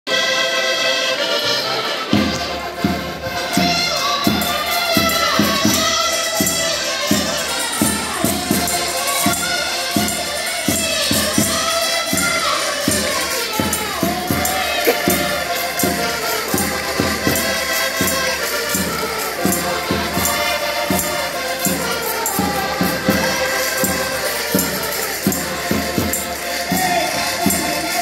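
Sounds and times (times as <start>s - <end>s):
button accordions playing: 0.1s - 28.0s
jingling hand percussion: 1.1s - 28.0s
voices singing along: 2.7s - 28.0s.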